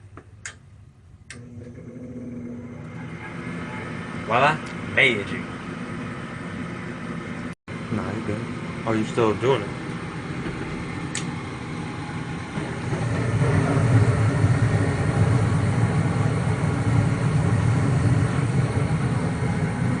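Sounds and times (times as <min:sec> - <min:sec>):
furnace motor humming: 0:00.0 - 0:20.0.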